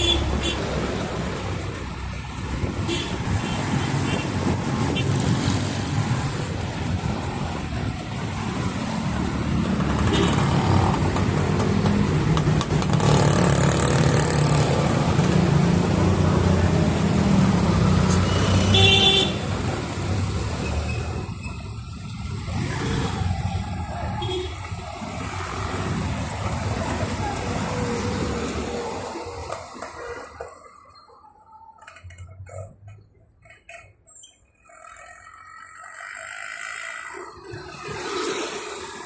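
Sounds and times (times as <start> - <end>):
passing vehicle engines rumbling: 0.0 - 34.0, 34.7 - 39.0.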